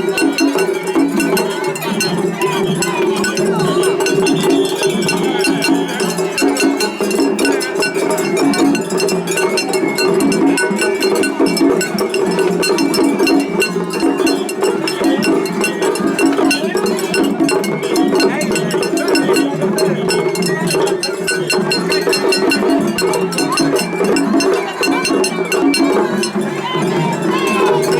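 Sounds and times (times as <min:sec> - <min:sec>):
festival music ensemble: 0:00.0 - 0:27.9.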